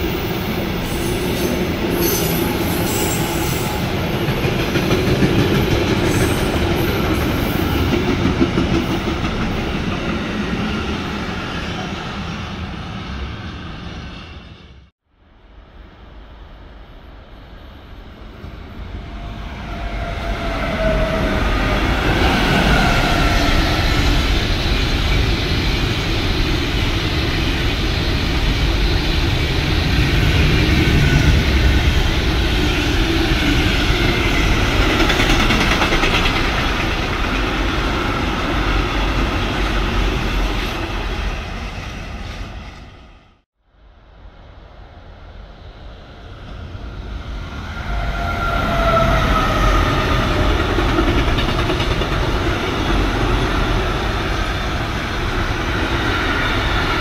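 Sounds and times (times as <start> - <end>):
train passing close by: 0.0 - 57.0.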